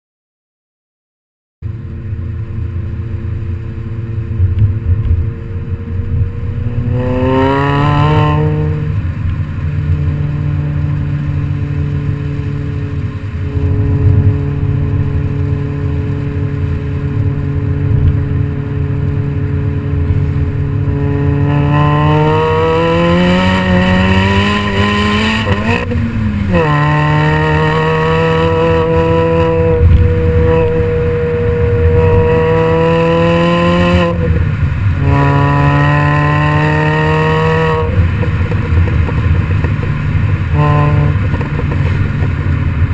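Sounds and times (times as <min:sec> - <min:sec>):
car engine idling and revving: 0:01.6 - 0:42.9.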